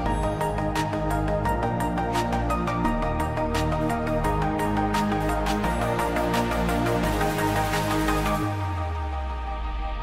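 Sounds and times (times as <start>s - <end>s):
electronic instrumental music: 0.0s - 10.0s.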